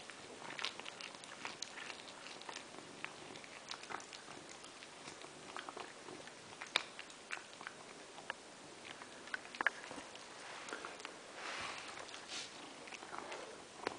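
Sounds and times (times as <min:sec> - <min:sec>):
cat chewing with crunches: 0:00.0 - 0:13.9.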